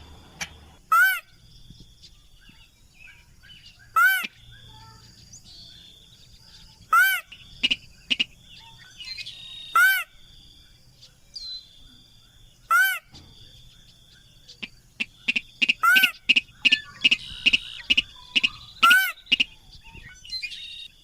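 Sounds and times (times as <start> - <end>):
rail bird call: 0.0 - 1.5, 2.1 - 21.0
bird chirps: 0.0 - 21.0.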